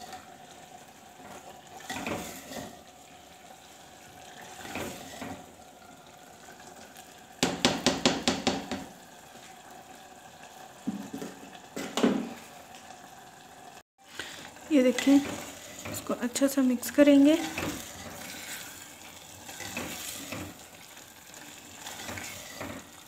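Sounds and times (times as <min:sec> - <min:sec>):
low cooking hiss: 0:00.0 - 0:23.0.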